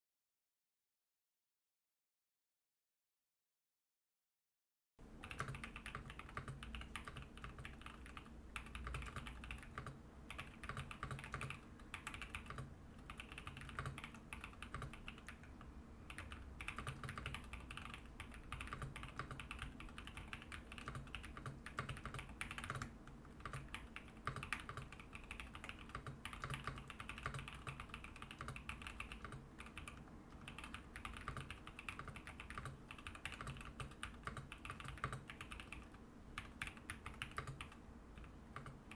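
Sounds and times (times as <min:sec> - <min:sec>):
typing on mechanical keyboard: 0:05.2 - 0:38.9.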